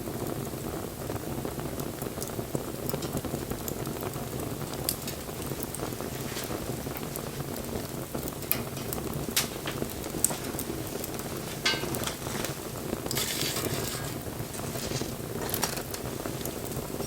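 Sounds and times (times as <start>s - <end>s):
bonfire flames rushing: 0.0s - 17.0s
fire crackling and popping: 0.0s - 17.0s
fire hissing: 0.0s - 17.0s.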